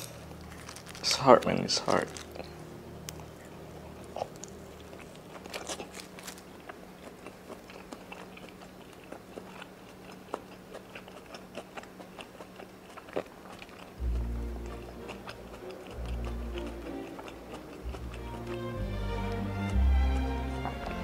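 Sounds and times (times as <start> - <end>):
faint steady hum: 0.0 - 21.0
person chewing: 0.0 - 21.0.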